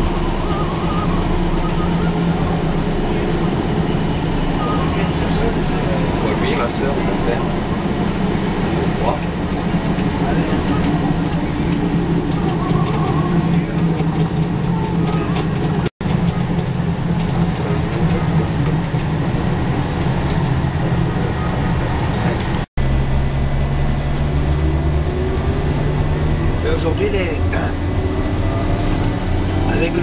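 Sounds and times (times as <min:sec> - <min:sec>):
diesel engine running: 0:00.0 - 0:30.0
wheel and track noise: 0:00.0 - 0:30.0.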